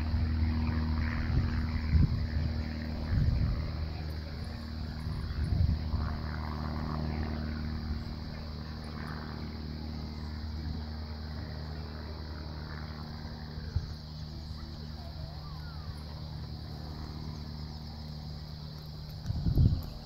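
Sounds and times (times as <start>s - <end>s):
wind buffeting microphone: 0.0s - 9.3s, 12.6s - 20.0s
low engine drone: 0.0s - 20.0s.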